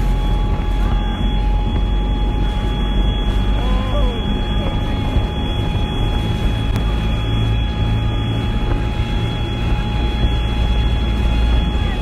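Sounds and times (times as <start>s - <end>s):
high whine: 0.0s - 12.0s
tank engine and tracks rumbling: 0.0s - 12.0s.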